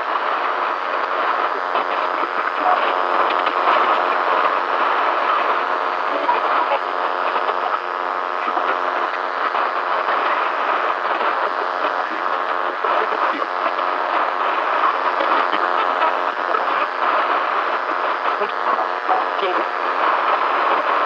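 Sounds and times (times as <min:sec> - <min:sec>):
crackling radio static: 0:00.0 - 0:21.0.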